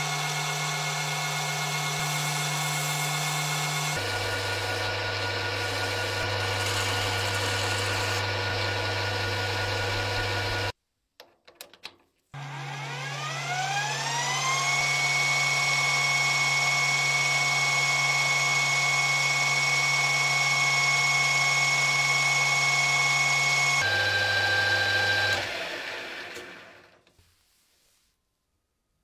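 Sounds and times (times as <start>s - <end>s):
electric grinder motor whining: 0.0s - 10.7s, 12.4s - 26.9s.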